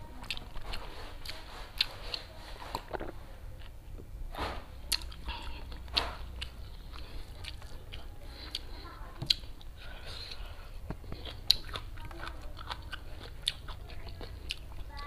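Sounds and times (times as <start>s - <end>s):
wet chewing and lip-smacking: 0.2s - 3.8s, 4.9s - 15.0s.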